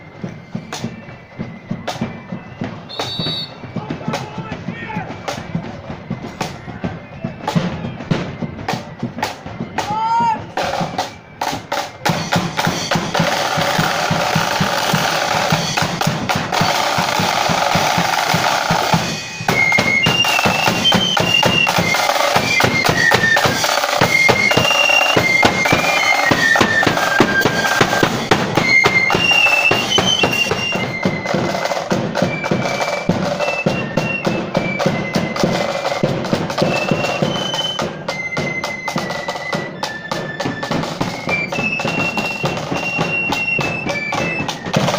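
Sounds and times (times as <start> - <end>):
shrill flute melody: 0.0 - 44.9
snare and bass drums marching: 0.0 - 44.9.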